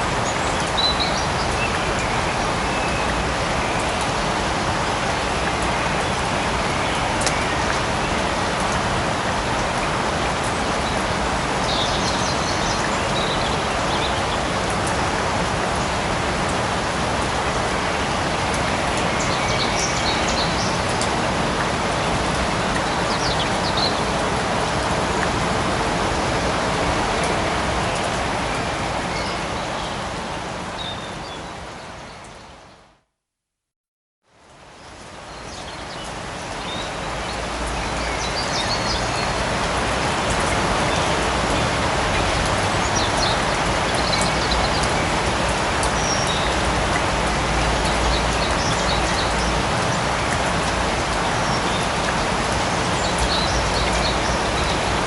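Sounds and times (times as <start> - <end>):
light rain falling: 0.0 - 33.2, 34.2 - 55.0.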